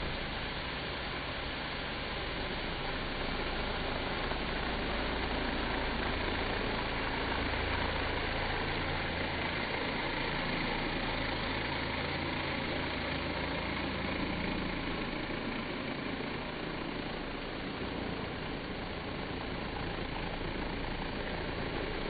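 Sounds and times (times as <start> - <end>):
pressure washer motor hum: 0.0 - 22.0.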